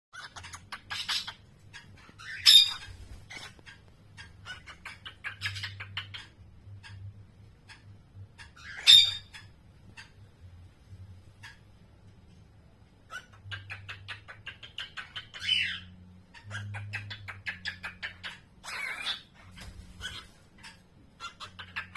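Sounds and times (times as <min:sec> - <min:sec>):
bird clicks and chatter: 0:00.2 - 0:10.2, 0:13.1 - 0:21.9.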